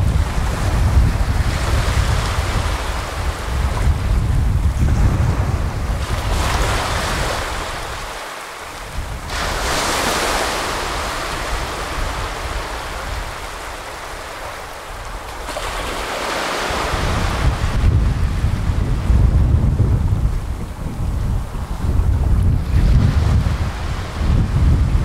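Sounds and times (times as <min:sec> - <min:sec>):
sea waves washing up beach: 0:00.0 - 0:25.0
wind rumbling on microphone: 0:00.0 - 0:25.0.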